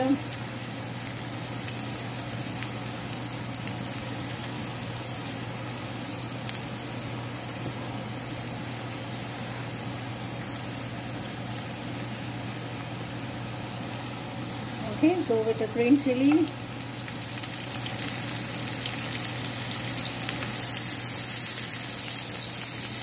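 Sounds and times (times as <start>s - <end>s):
onion sizzling in butter: 0.0s - 23.0s.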